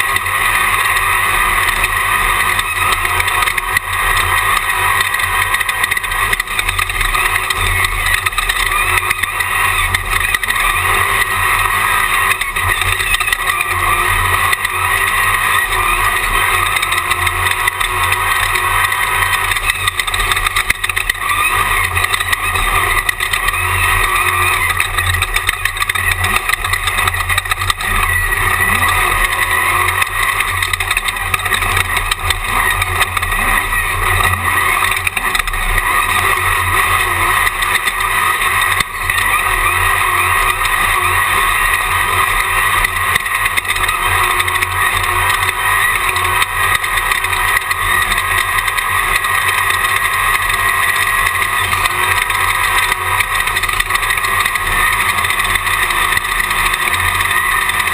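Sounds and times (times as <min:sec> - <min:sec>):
race buggy engine at speed: 0:00.0 - 0:57.9.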